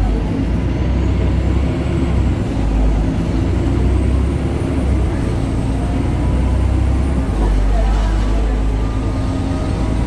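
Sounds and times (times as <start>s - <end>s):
bus diesel engine droning: 0.0s - 10.0s.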